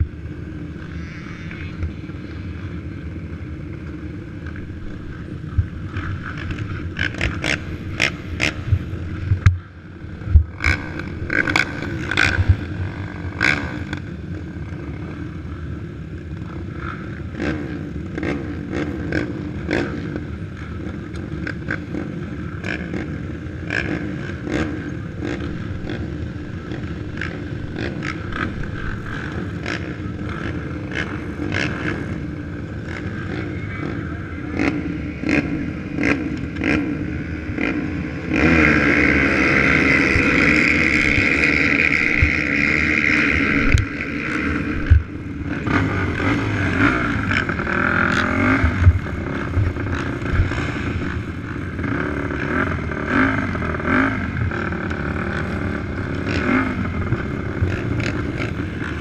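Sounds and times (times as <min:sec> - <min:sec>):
atv engines idling and revving: 0:00.0 - 0:59.0.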